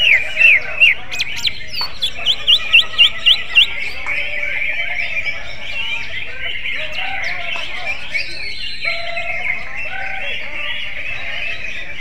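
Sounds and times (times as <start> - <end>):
bird singing whistled notes: 0.0 - 12.0
bird twittering warble: 0.0 - 12.0.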